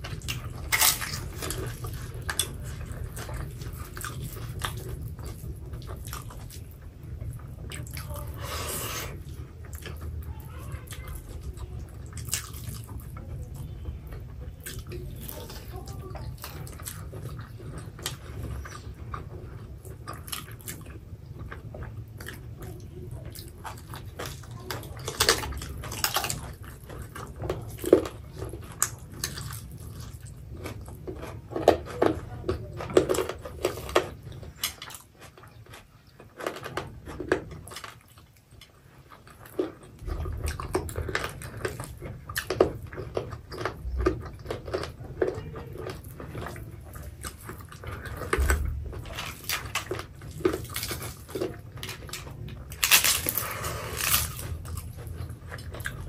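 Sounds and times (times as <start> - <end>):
people chewing food: 0.0 - 56.0.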